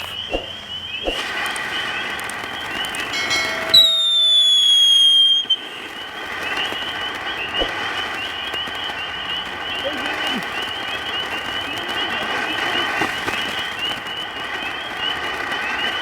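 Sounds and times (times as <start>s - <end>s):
descending whistle: 0.0s - 16.0s
firework fountain hissing: 0.0s - 16.0s.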